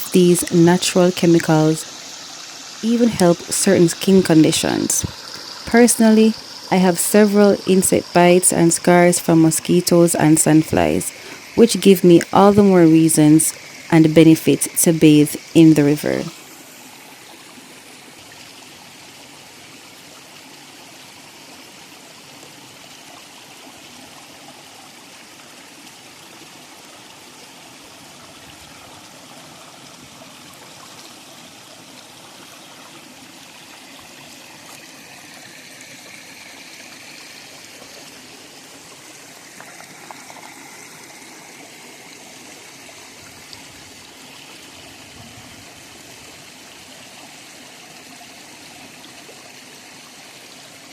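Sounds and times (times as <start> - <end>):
river water flowing: 0.0 - 50.9.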